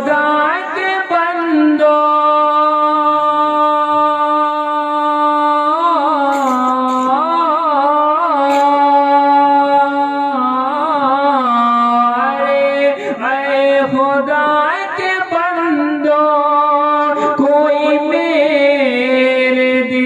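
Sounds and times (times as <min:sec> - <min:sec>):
man singing long held notes: 0:00.0 - 0:20.0.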